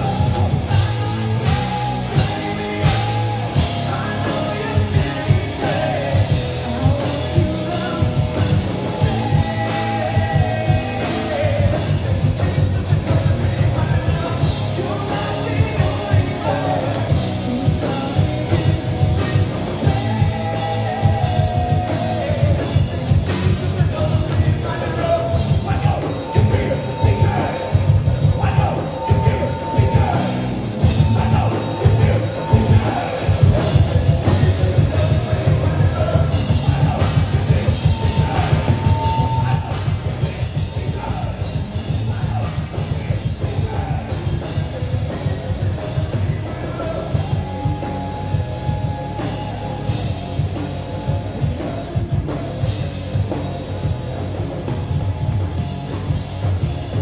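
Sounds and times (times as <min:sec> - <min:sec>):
man singing: 0:00.0 - 0:53.4
drum kit beat: 0:00.0 - 0:57.0
rock band playing live: 0:00.0 - 0:57.0.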